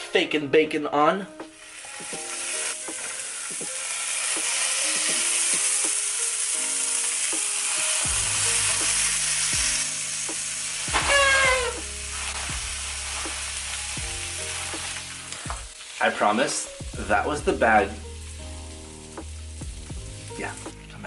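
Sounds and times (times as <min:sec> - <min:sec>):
strips sizzling in a pan: 0:01.4 - 0:21.0.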